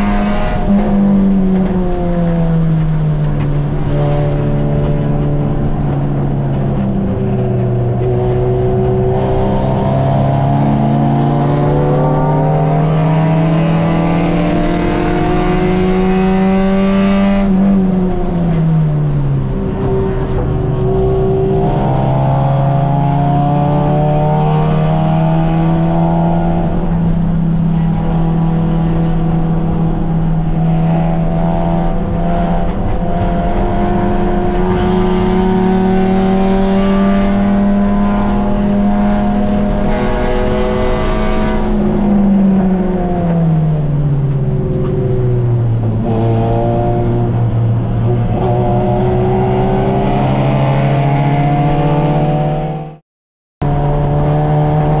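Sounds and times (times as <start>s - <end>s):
race car engine revving: 0.0s - 53.0s, 53.6s - 55.0s.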